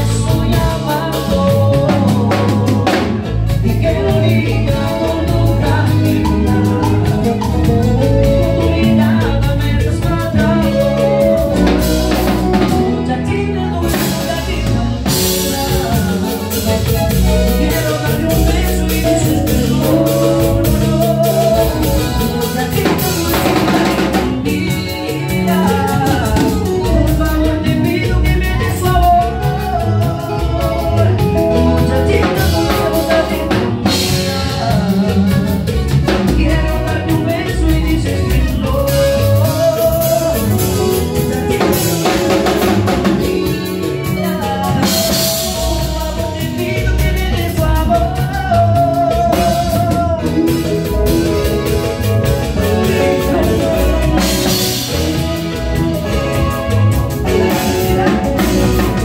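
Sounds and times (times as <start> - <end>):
band playing: 0.0 - 59.0
man singing into a microphone: 0.0 - 59.0.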